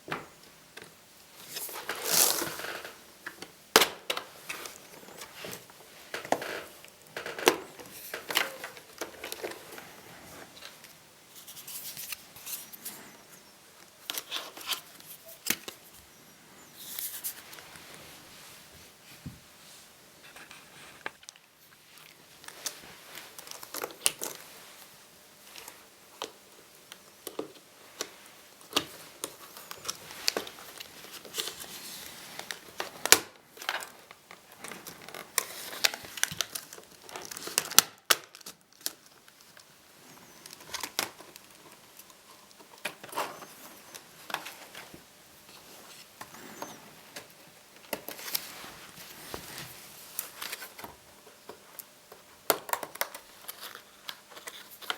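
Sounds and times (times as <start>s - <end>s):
plastic rustling: 0.0s - 13.3s, 20.2s - 54.9s.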